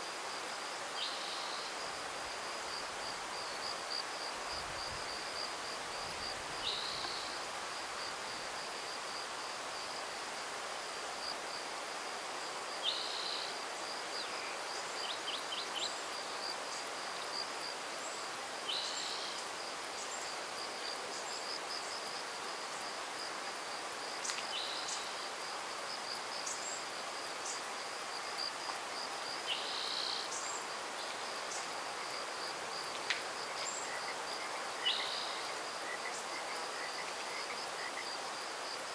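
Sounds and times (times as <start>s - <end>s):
background hiss: 0.0s - 38.9s.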